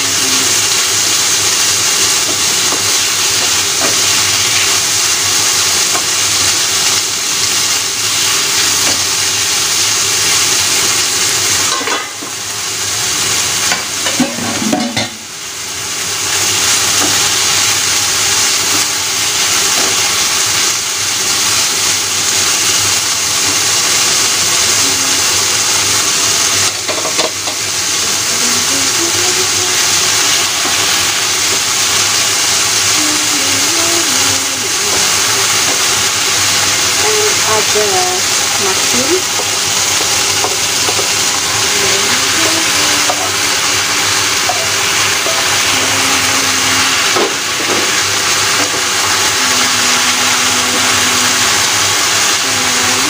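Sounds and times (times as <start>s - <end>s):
meat and mushrooms sizzling in pan: 0.0s - 53.0s.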